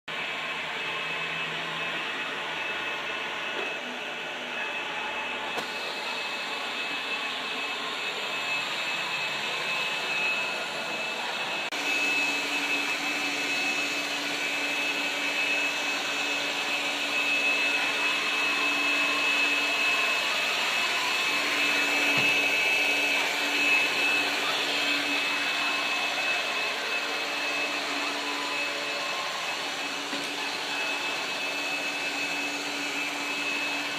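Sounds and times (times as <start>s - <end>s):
robot vacuum whirring: 0.2s - 33.9s.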